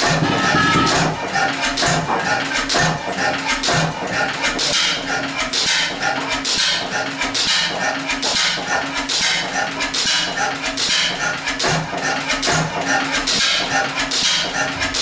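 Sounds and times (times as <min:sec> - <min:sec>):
stationary engine puffing and clattering: 0:00.0 - 0:15.0.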